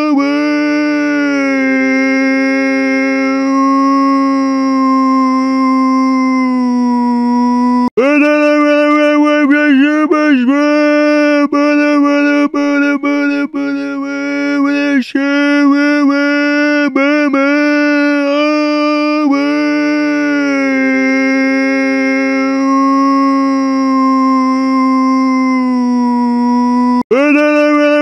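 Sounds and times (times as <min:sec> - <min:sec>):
person screaming: 0:00.0 - 0:28.0.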